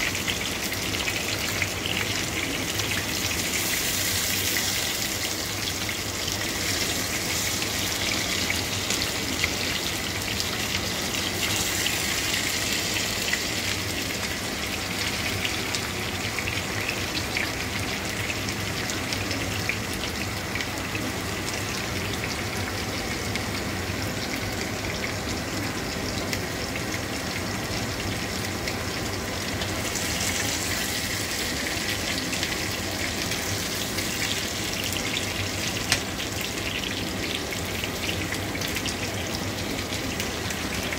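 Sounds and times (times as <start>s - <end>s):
meat sizzling in hot oil: 0.0s - 40.9s.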